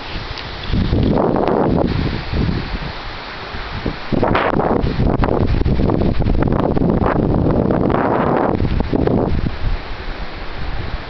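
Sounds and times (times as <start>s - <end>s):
leaves rustling: 0.0s - 11.0s
storm wind gusting through trees: 0.0s - 11.0s
wind buffeting microphone: 0.0s - 11.0s.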